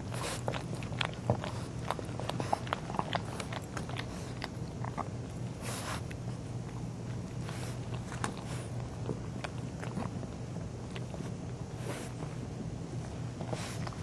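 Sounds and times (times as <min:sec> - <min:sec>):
dog sniffing: 0:00.0 - 0:06.4, 0:07.3 - 0:12.4, 0:13.0 - 0:14.0
dog licking and snuffling: 0:00.0 - 0:14.0.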